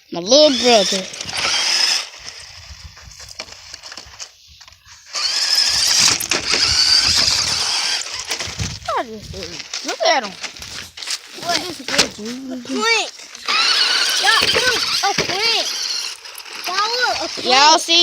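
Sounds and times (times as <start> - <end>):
toy car electric motor whirring: 0.3 - 18.0.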